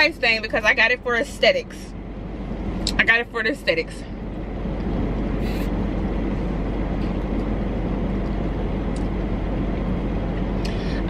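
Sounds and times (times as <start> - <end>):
car cabin engine hum: 0.0 - 11.0.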